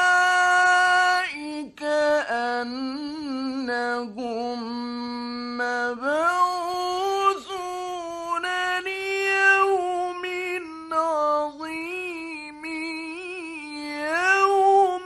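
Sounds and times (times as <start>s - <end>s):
man reciting in melodic style: 0.0s - 15.0s.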